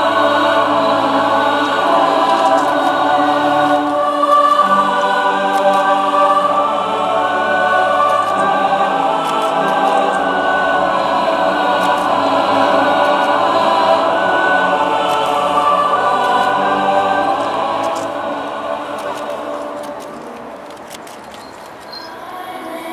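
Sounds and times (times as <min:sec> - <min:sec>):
choir singing held chords: 0:00.0 - 0:22.9.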